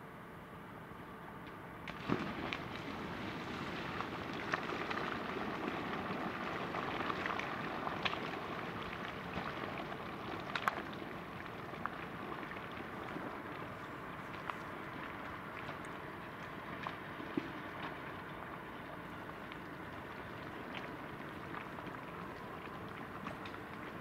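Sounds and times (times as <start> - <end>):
molten slag pouring: 1.9 - 24.0.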